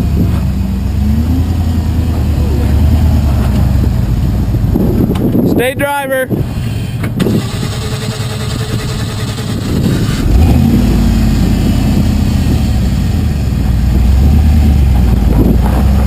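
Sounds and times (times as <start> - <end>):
vehicle engine running: 0.0 - 5.4, 6.4 - 16.0.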